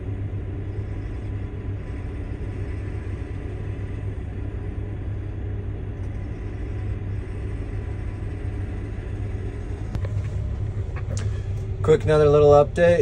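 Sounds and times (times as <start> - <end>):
wheel loader diesel engine drone: 0.0 - 13.0.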